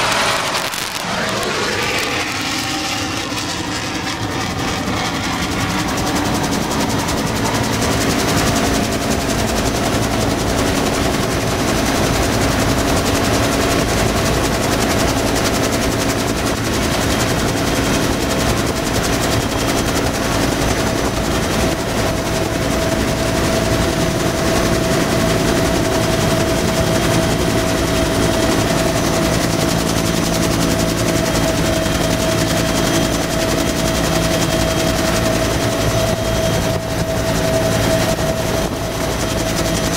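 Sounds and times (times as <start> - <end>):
helicopter engine and rotor: 0.0 - 39.9
steady whine: 0.0 - 39.9.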